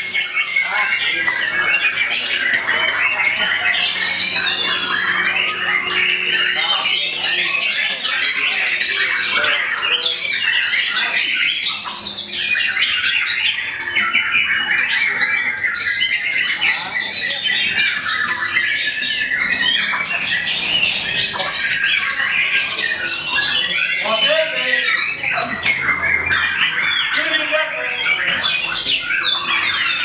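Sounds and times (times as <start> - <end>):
many songbirds singing: 0.0 - 30.0.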